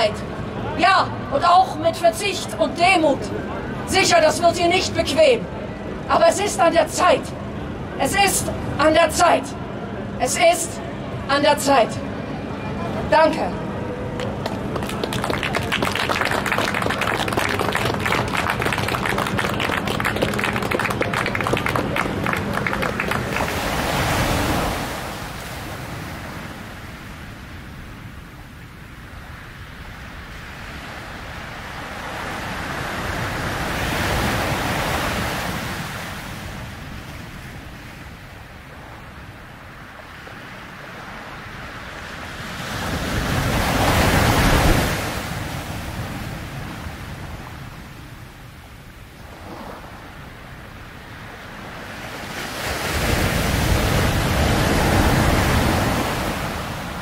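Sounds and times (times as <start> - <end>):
ocean waves washing in and out: 0.0 - 57.0.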